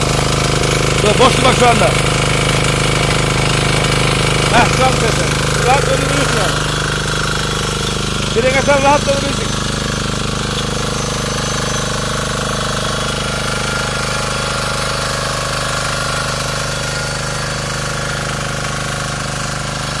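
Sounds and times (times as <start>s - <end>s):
diesel tiller engine knocking: 0.0s - 20.0s.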